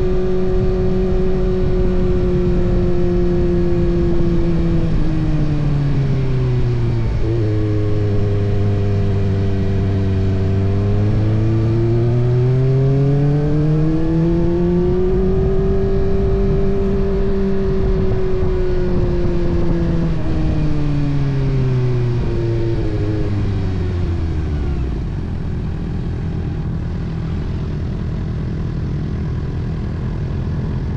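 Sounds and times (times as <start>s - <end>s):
motorcycle engine revving and idling: 0.0s - 30.9s.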